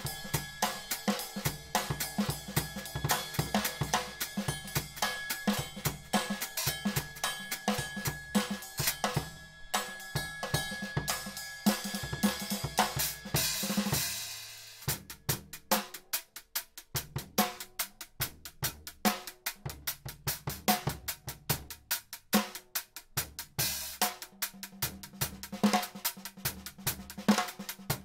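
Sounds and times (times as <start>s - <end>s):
drum-heavy background music: 0.0s - 28.0s.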